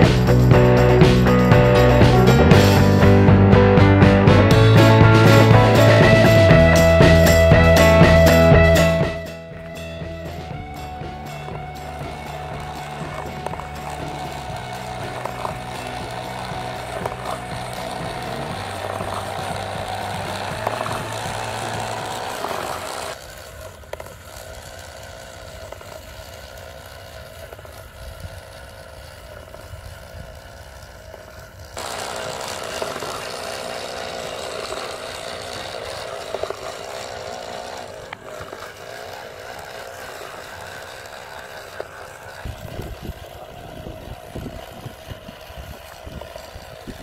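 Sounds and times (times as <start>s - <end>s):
small electric motor whining: 0.0s - 3.4s, 4.3s - 47.0s.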